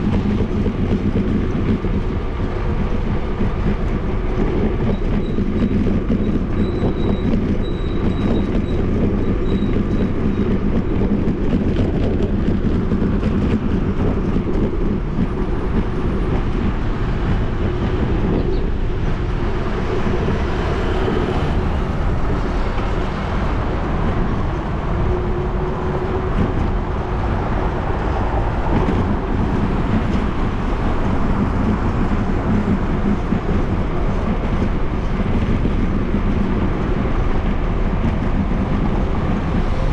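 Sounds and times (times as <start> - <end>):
bicycle rolling on concrete: 0.0 - 39.9.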